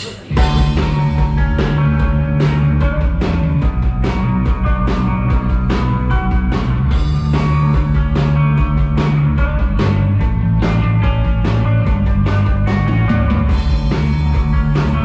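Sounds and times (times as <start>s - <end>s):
bass and guitar notes: 0.0s - 15.0s
drum kit steady beat: 0.0s - 15.0s.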